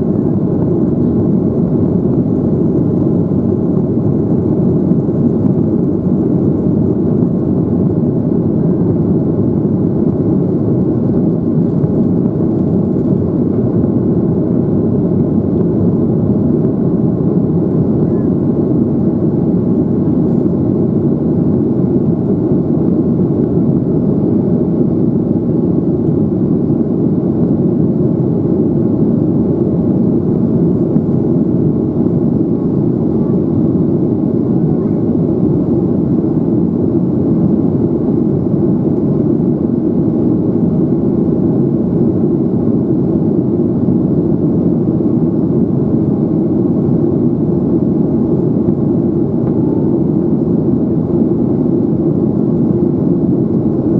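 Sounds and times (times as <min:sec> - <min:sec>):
jet engines and airflow rumble: 0:00.0 - 0:53.9.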